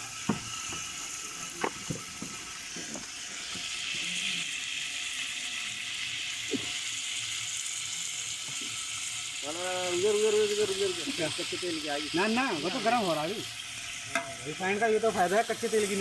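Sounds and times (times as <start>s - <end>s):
oil sizzling in pot: 0.0s - 16.0s.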